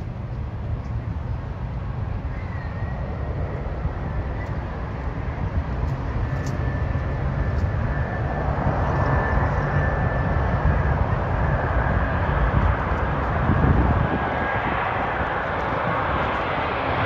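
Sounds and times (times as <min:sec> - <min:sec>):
jet engine whine and rumble: 0:00.0 - 0:17.0.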